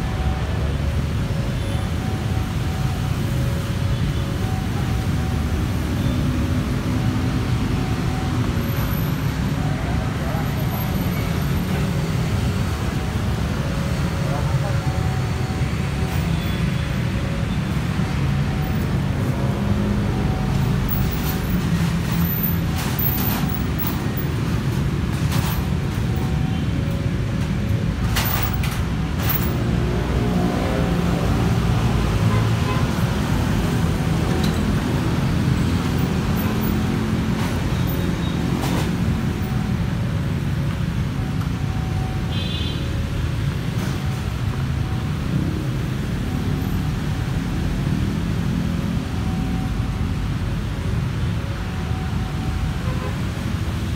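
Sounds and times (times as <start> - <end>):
passing vehicles rumbling: 0.0 - 53.9.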